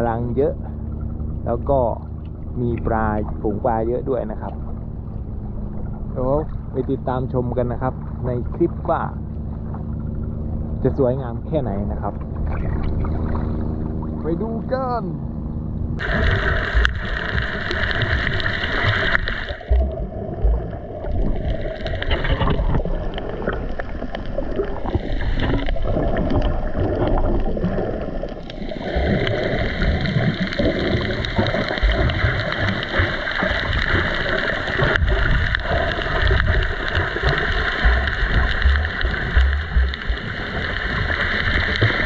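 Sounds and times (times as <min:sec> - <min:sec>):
steady low drone: 0:00.0 - 0:42.0
water gurgling and sloshing: 0:00.0 - 0:42.0.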